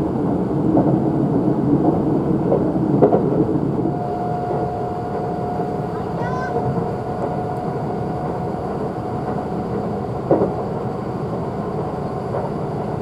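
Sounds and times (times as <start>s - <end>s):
train rumble from inside carriage: 0.0s - 13.0s
train wheel clack: 0.0s - 13.0s
faint steady whine: 1.4s - 13.0s.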